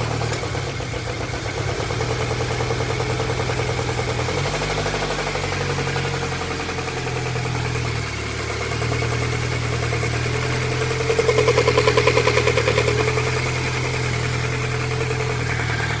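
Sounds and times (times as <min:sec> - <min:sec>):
engine idling with rhythmic knock: 0:00.0 - 0:16.0.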